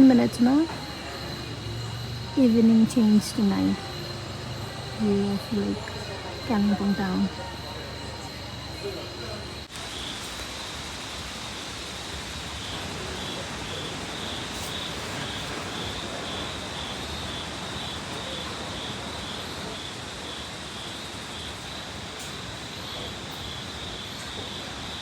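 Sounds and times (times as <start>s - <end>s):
insects chirping: 0.0s - 25.0s
outdoor background hiss: 0.0s - 25.0s.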